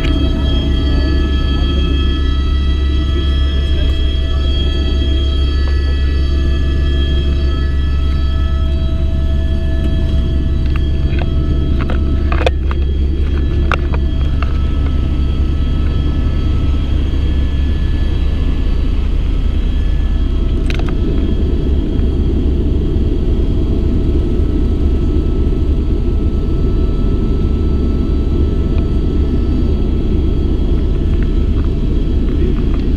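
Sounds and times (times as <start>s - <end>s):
helicopter rotor and turbine drone: 0.0s - 32.9s.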